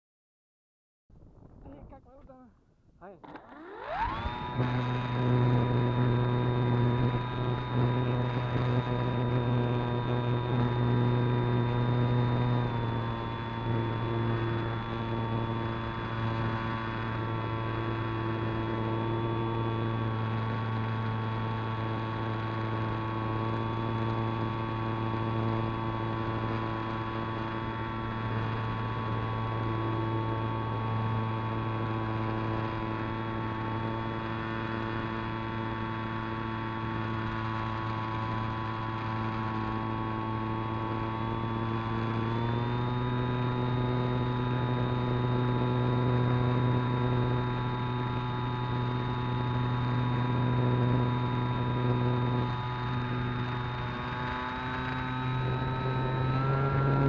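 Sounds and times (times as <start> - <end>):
model airplane motor and propeller: 1.6 - 57.0.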